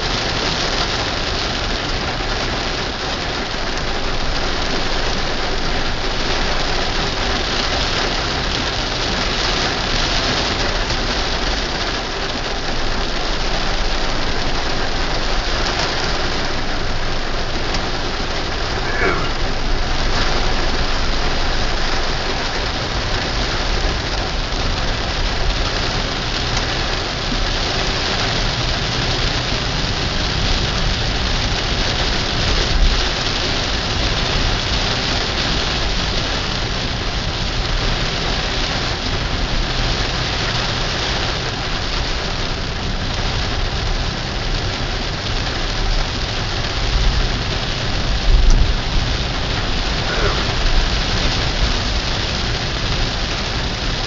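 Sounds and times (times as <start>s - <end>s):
car moving on wet road: 0.0s - 54.0s
heavy rain on car windshield: 0.0s - 54.0s.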